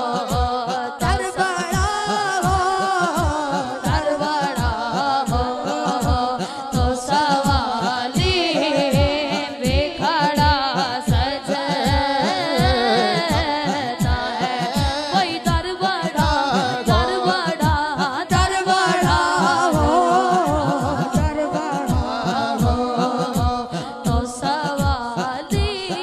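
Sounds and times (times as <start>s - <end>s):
boys singing into microphones: 0.0s - 26.0s
steady thumping beat: 0.0s - 26.0s.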